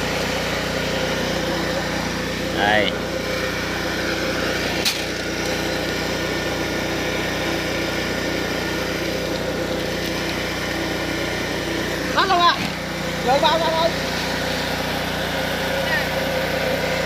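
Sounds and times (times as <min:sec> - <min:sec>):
small engine idling hum: 0:00.0 - 0:17.0.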